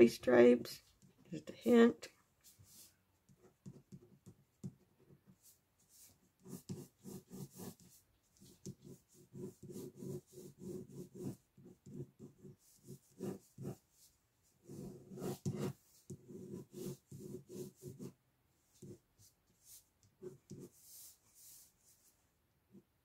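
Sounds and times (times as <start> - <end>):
pen scratching on paper: 2.6 - 22.1.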